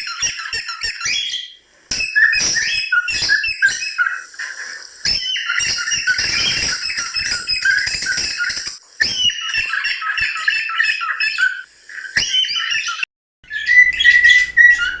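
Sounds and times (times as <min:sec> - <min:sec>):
cockatiels chirping: 0:00.0 - 0:15.0
steady whistled note: 0:00.0 - 0:15.0.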